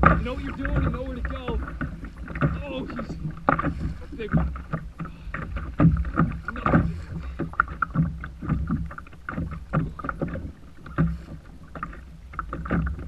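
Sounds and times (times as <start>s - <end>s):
water slapping against kayak hull: 0.0s - 13.0s.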